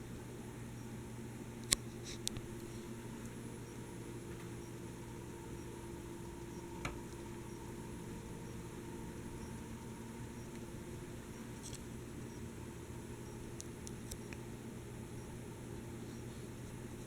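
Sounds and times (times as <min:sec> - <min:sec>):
ceiling fan humming: 0:00.0 - 0:17.0.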